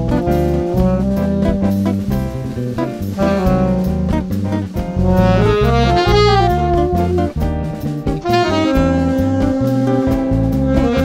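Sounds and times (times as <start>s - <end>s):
drums: 0.0s - 11.0s
electric bass: 0.0s - 11.0s
keyboard: 0.0s - 11.0s
saxophone: 0.0s - 11.0s.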